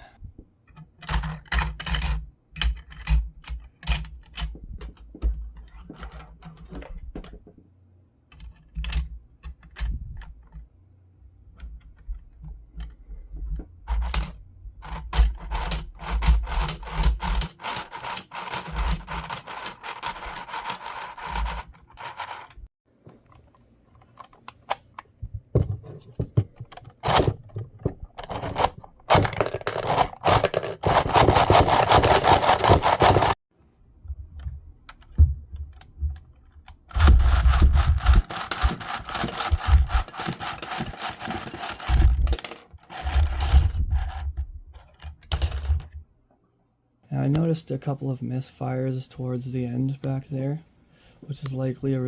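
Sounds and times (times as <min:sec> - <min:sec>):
plastic parts clicking and rattling: 0:00.6 - 0:07.7, 0:08.3 - 0:10.8, 0:11.4 - 0:33.4, 0:34.2 - 0:46.0.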